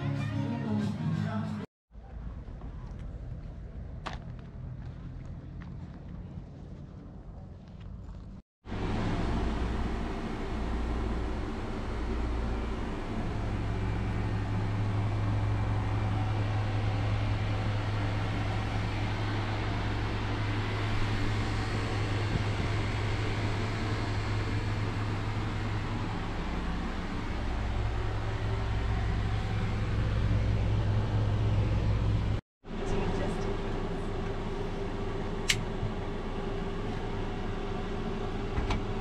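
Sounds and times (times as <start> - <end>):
engine humming: 2.0 - 39.0.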